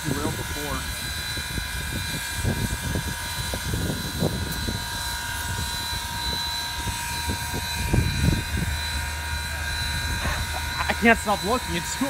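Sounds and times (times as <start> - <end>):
steam locomotive idling: 0.0 - 12.0.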